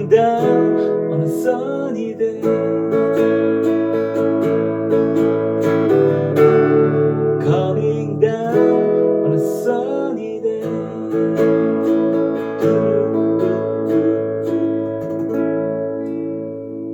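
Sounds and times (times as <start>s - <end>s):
acoustic guitars strumming chords: 0.0s - 16.9s.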